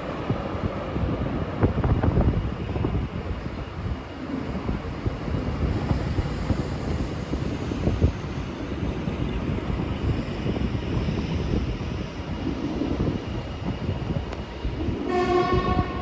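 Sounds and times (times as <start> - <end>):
electric train rumbling past: 0.0 - 16.0
wind buffeting microphone: 0.0 - 16.0.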